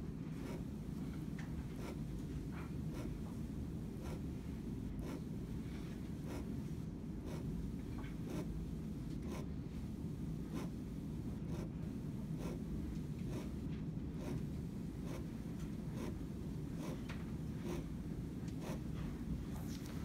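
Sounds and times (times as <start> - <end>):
low room hum: 0.0 - 20.0
pen scratching on paper: 0.3 - 0.8, 1.6 - 3.3, 3.9 - 9.6, 10.4 - 19.0.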